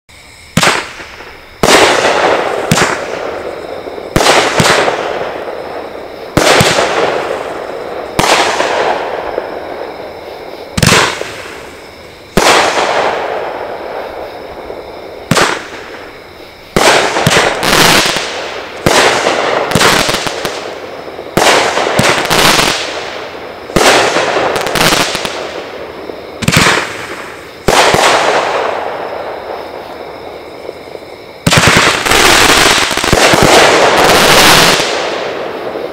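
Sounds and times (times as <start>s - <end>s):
firework shots firing: 0.5s - 9.8s, 10.5s - 29.8s, 31.4s - 35.9s.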